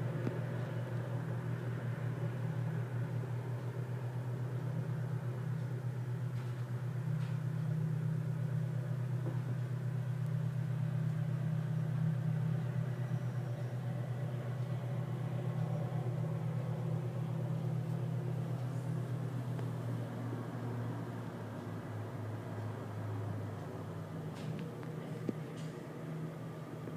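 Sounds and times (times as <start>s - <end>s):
distant road traffic rumble: 0.0s - 26.9s.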